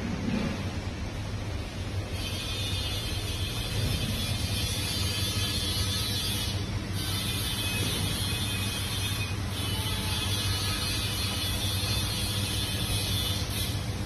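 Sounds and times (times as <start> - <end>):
machinery humming: 0.0 - 14.0.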